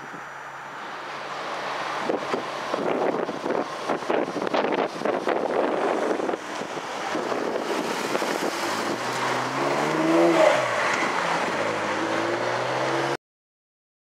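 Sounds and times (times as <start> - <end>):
car engine revving: 0.0 - 13.2
cars driving over railroad crossing: 0.0 - 13.2
traffic noise: 0.0 - 13.2.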